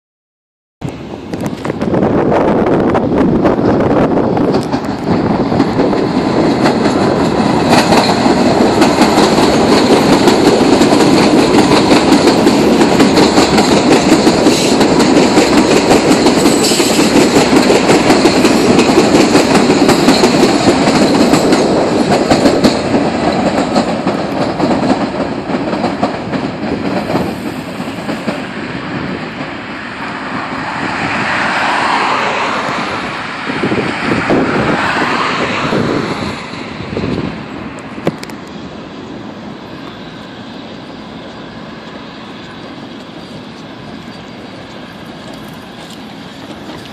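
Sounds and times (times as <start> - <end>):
train wheels clattering over rails: 3.0 - 38.6, 40.8 - 46.9.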